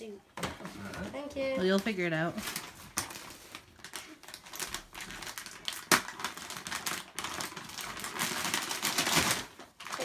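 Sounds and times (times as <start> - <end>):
wrapping paper tearing and crinkling: 1.8 - 10.0.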